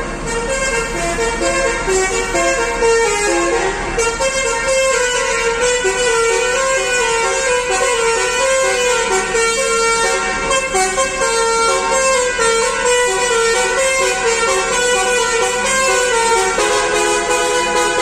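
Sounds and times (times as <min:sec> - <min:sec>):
musical air horn playing tune: 0:00.0 - 0:18.0.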